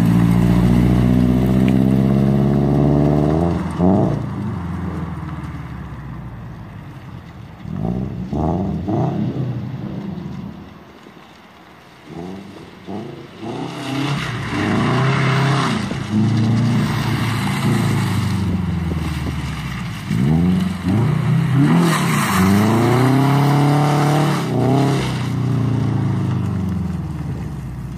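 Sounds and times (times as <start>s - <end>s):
car engine revving and accelerating: 0.0s - 6.2s, 7.6s - 10.7s, 12.0s - 27.7s.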